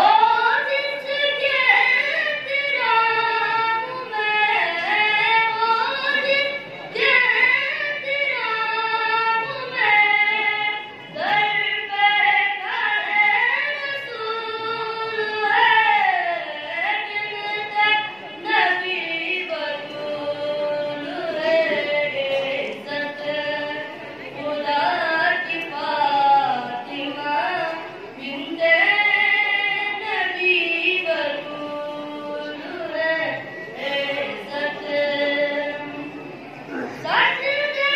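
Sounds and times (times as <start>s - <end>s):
boy singing into a microphone: 0.0s - 37.9s.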